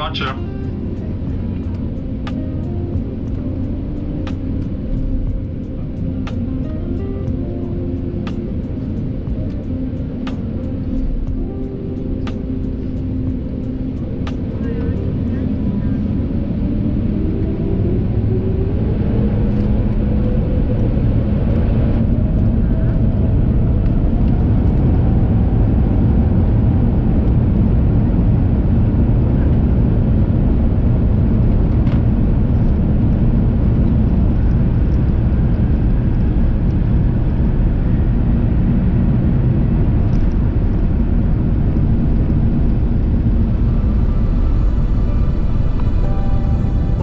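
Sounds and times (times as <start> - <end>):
jet engines at takeoff power: 0.0 - 47.0
music: 0.0 - 47.0.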